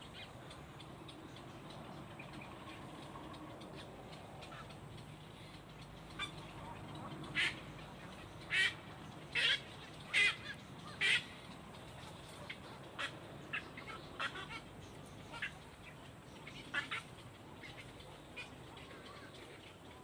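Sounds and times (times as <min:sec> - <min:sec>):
bird chirps and clicks: 0:00.0 - 0:20.0
harsh bird calls: 0:00.0 - 0:20.0.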